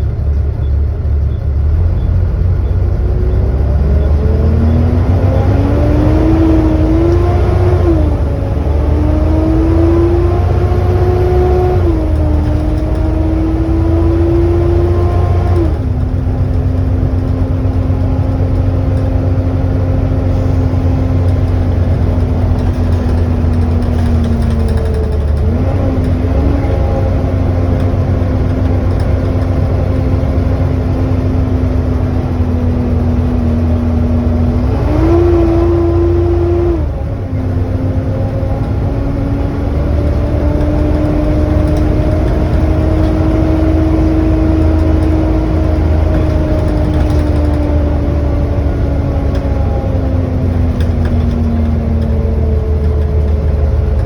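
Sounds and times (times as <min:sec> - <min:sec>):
bus diesel engine whining: 0:00.0 - 0:54.0.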